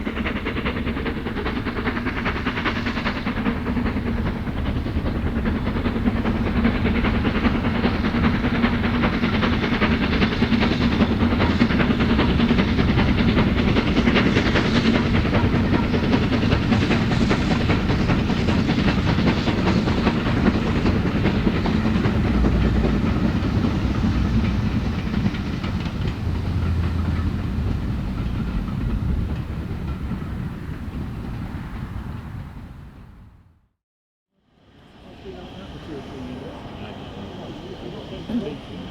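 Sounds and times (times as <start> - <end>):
steam locomotive rumbling past: 0.0 - 33.7, 34.4 - 38.9.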